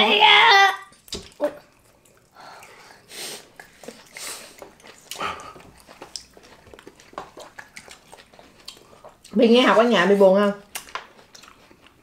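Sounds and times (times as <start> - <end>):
wet chewing: 0.8 - 12.0
lip smacks: 0.9 - 9.4, 10.7 - 12.0.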